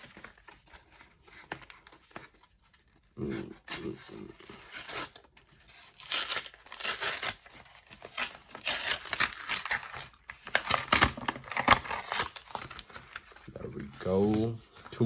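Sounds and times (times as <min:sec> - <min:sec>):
plastic packaging crinkling and tearing: 0:00.0 - 0:15.0.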